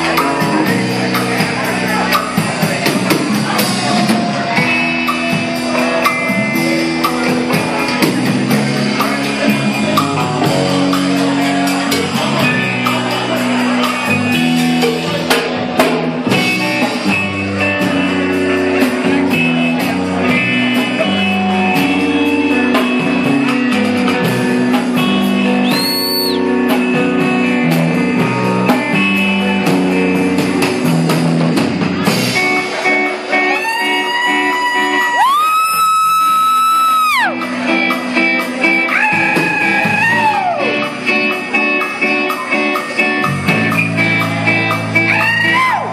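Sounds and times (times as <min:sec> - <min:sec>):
drum kit: 0:00.0 - 0:45.9
electric guitar: 0:00.0 - 0:45.9.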